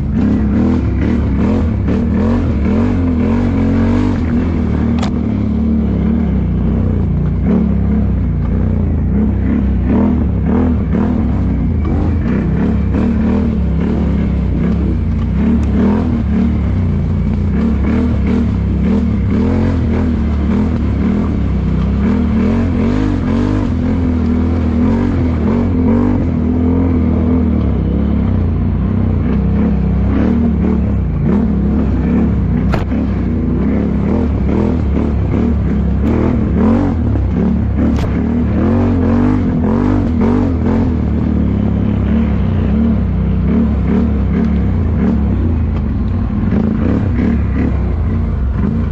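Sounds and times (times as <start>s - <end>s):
atv engines revving: 0.0s - 48.9s
steady low rumble: 0.0s - 48.9s.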